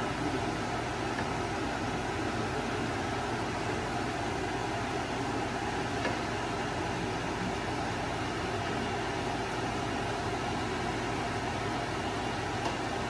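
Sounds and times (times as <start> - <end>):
microwave vent fan whirring: 0.0 - 13.0.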